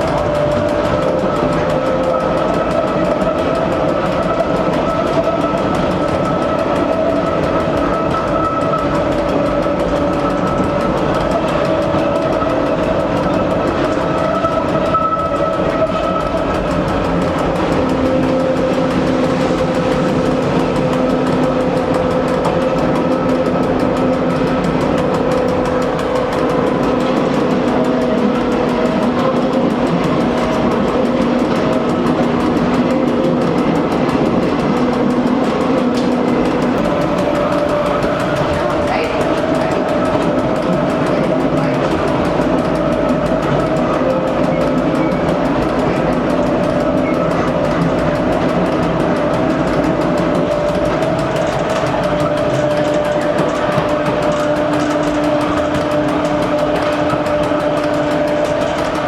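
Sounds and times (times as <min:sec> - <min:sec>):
train motor whine: 0:00.0 - 0:59.0
train wheels rolling on rails: 0:00.0 - 0:59.0.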